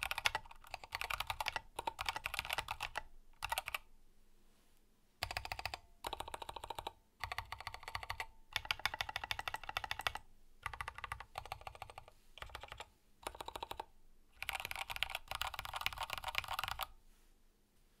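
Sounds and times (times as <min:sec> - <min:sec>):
mechanical keyboard typing: 0:00.0 - 0:03.9, 0:05.2 - 0:16.9.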